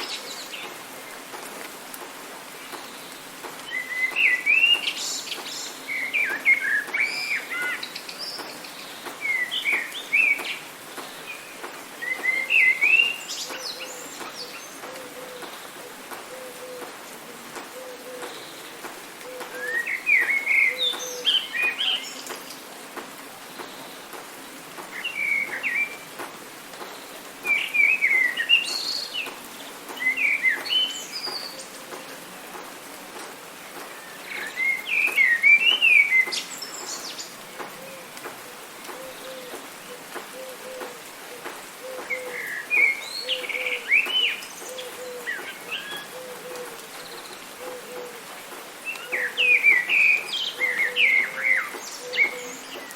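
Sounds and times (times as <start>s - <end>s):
light rain hiss: 0.0s - 52.9s
songbirds chirping: 0.0s - 52.9s.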